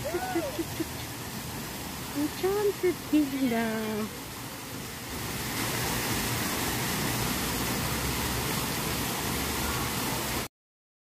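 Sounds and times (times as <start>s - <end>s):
fountain water splashing: 0.0s - 10.5s.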